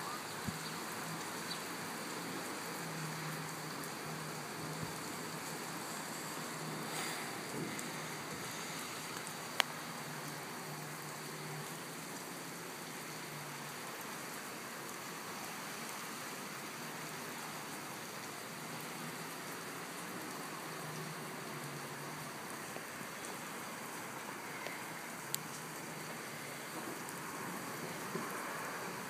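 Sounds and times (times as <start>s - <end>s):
rain falling on wet street: 0.0s - 29.0s.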